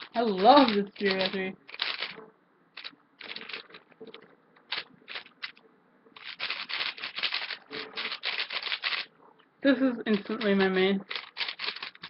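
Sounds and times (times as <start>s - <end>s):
puzzle cube layers clacking: 0.0s - 2.2s, 2.8s - 5.6s, 6.2s - 9.1s, 10.1s - 12.0s.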